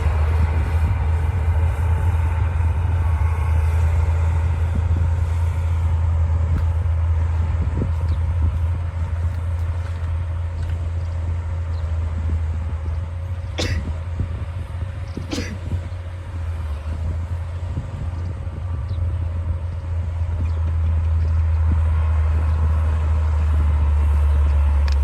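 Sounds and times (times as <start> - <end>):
bulldozer diesel engine droning: 0.0 - 25.0.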